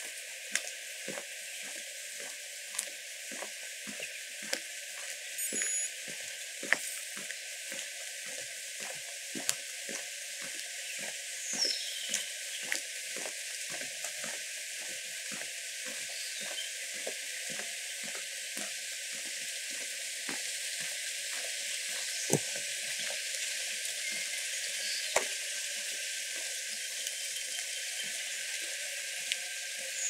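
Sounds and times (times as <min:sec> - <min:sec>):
light rain hissing: 0:00.0 - 0:30.0.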